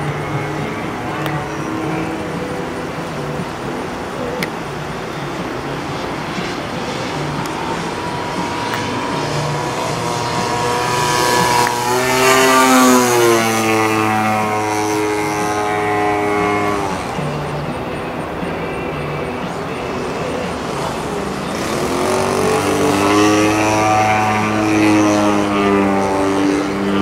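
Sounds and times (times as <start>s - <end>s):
model plane engine and propeller: 0.0s - 27.0s.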